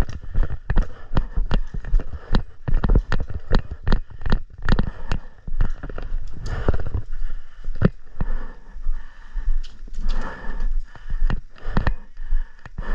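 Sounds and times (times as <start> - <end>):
quick footsteps on ground: 0.0 - 12.9.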